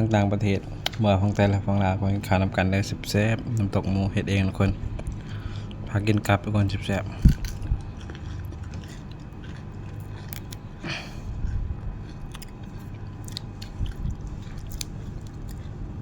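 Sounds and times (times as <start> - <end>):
person chewing food: 0.0 - 1.5, 3.4 - 16.0.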